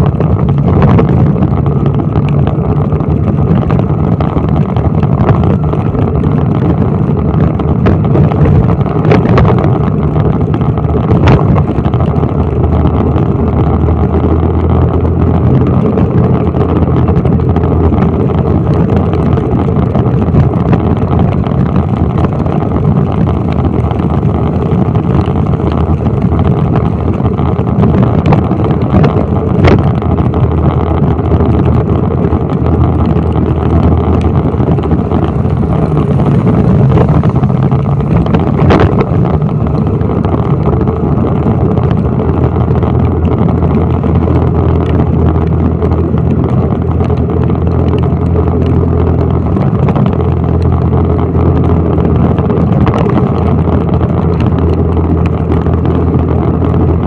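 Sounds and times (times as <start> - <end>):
motorbike engine: 0.0 - 57.0
tyres on wet road: 0.0 - 57.0
wind buffeting microphone: 0.0 - 57.0.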